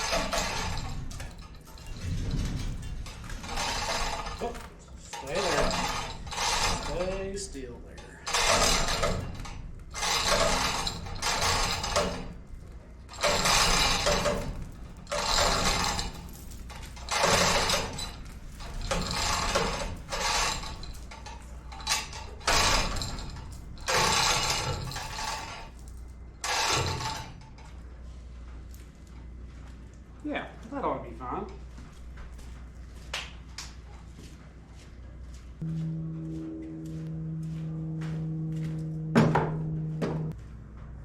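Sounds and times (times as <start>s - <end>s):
chain hoist rattling and ratcheting: 0.0s - 32.9s.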